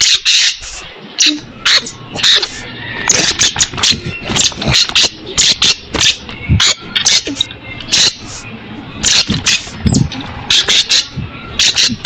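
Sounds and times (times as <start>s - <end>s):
parrots chirping shrilly: 0.0s - 8.4s, 9.0s - 12.0s.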